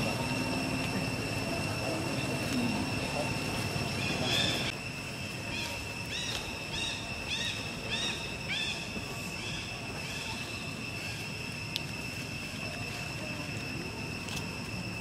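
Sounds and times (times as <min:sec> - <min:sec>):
high-pitched drone: 0:00.0 - 0:15.0.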